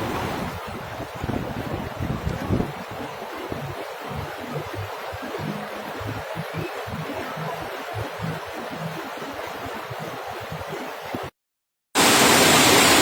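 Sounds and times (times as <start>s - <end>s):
rushing floodwater: 0.0s - 11.3s, 12.0s - 13.0s
wind buffeting microphone: 0.0s - 11.3s.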